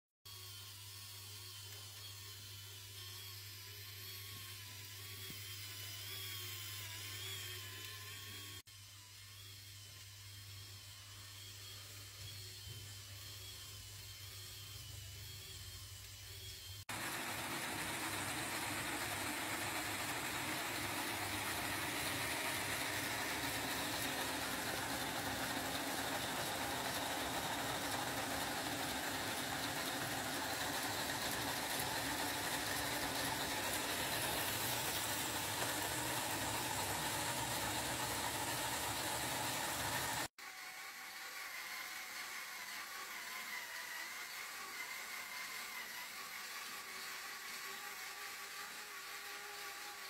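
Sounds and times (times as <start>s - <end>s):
toy engine model whirring clatter: 0.3s - 50.0s.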